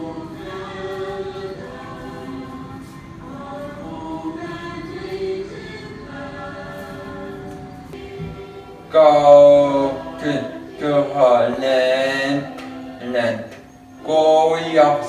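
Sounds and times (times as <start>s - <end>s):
voices singing a slow hymn: 0.0s - 15.0s.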